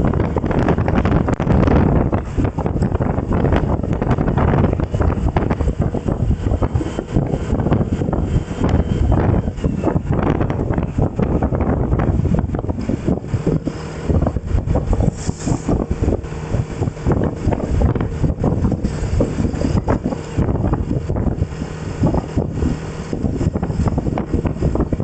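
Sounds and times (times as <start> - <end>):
vehicle running noise: 0.0 - 25.0
wind buffeting microphone: 0.0 - 25.0.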